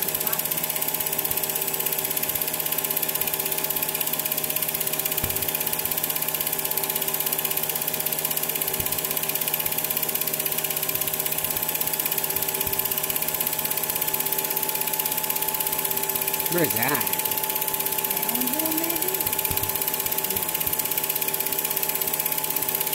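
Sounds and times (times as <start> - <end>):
film projector clattering: 0.0 - 22.9
projector motor hum: 0.0 - 22.9.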